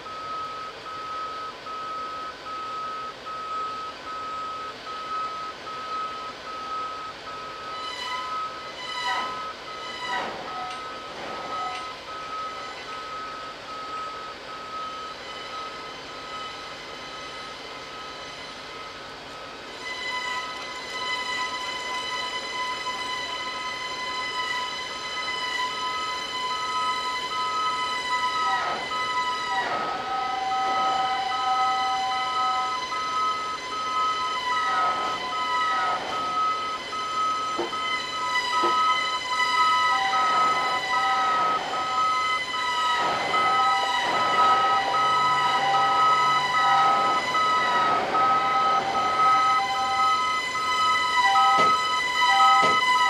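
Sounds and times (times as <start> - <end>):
crane high whine: 0.0 - 53.0
reversing alarm beeping: 0.0 - 53.0.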